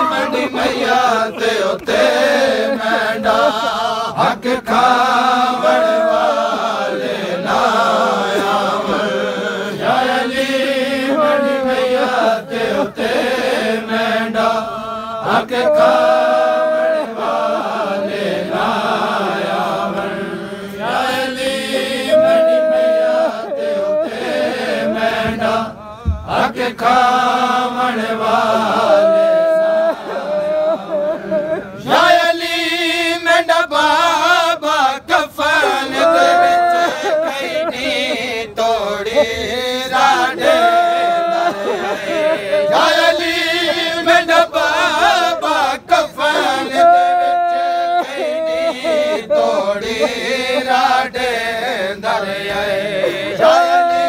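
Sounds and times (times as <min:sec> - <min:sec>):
man reading verses: 0:00.0 - 0:54.0
men chanting a lament: 0:00.0 - 0:54.0.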